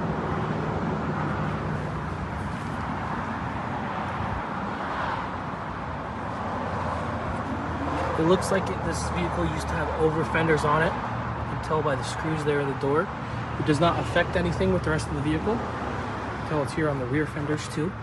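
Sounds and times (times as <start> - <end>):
vehicle noise: 0.0 - 18.0.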